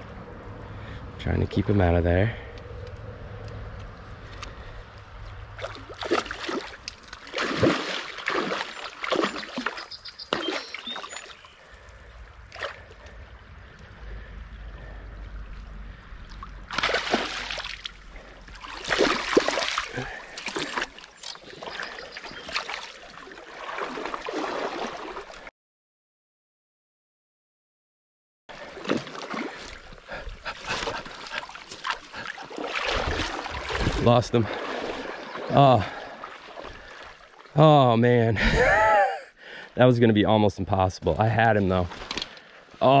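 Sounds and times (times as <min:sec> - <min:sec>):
water splashing and sloshing: 0:02.6 - 0:25.5, 0:28.5 - 0:39.0, 0:41.1 - 0:43.0.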